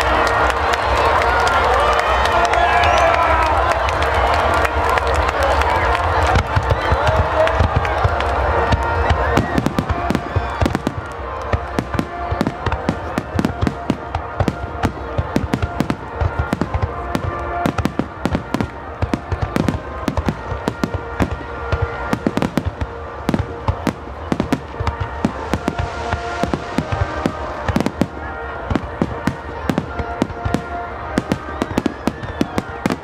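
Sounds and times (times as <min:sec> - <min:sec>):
fireworks bursting: 0:05.0 - 0:33.0.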